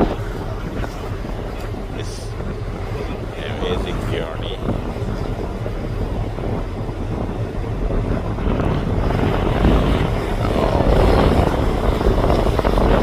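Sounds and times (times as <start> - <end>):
ship engines rumbling: 0.0 - 13.0
wind on microphone: 0.0 - 13.0.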